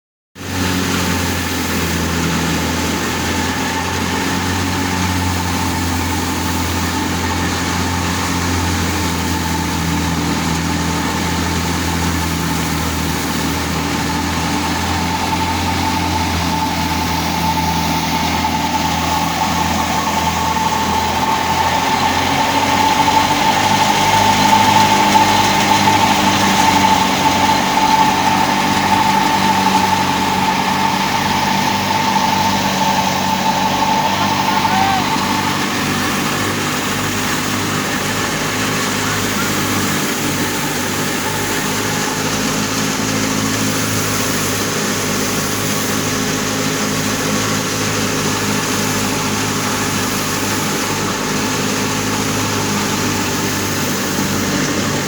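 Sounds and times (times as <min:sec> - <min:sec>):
high machine whine: 0:00.4 - 0:55.0
low engine hum: 0:00.4 - 0:55.0.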